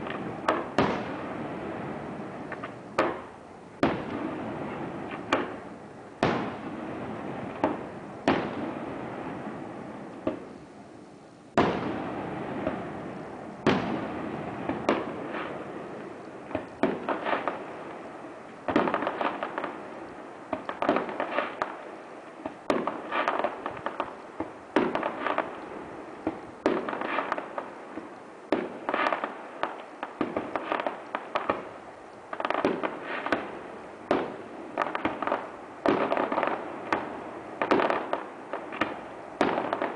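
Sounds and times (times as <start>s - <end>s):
fireworks bangs echoing: 0.0s - 10.5s, 11.5s - 21.8s, 22.4s - 31.7s, 32.3s - 39.9s
crackling firework clusters: 0.0s - 39.9s.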